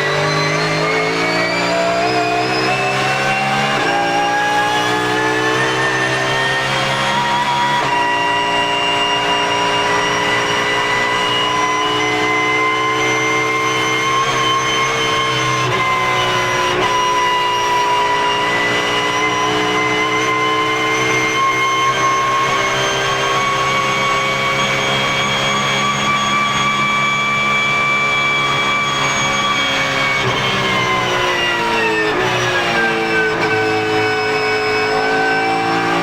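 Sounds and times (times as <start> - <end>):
race car engine at speed: 0.0 - 36.0.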